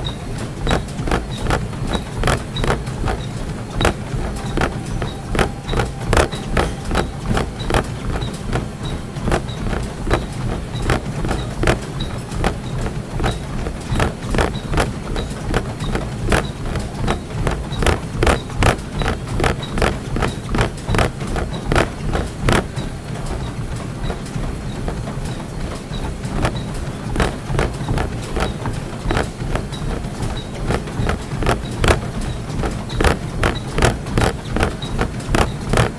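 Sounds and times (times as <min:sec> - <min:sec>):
low continuous hum: 0:00.0 - 0:35.9
running footfalls: 0:00.0 - 0:35.9.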